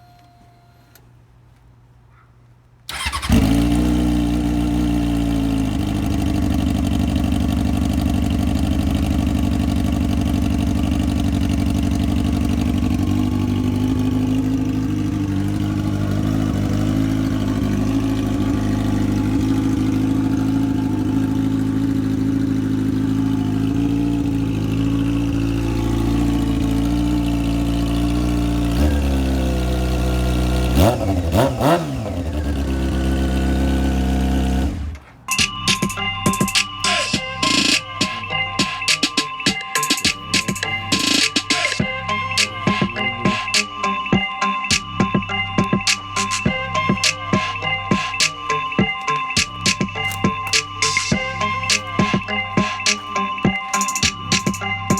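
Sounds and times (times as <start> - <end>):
motorcycle engine idling and revving: 2.9 - 54.9.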